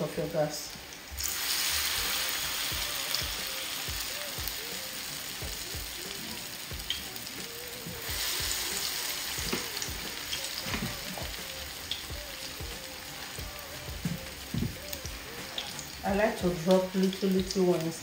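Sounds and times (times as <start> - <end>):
fritters sizzling in oil: 0.0 - 18.0.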